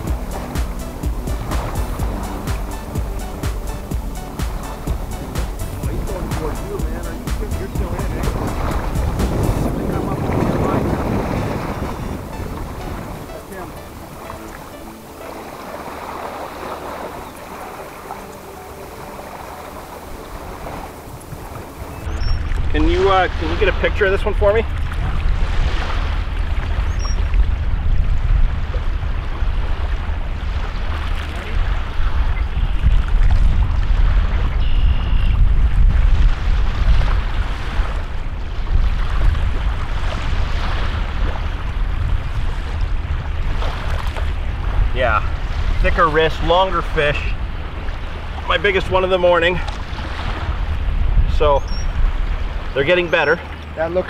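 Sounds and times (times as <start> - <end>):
lake waves washing onto sand: 0.0 - 54.0
water on shore: 0.0 - 54.0
wind rumble on microphone: 0.0 - 54.0.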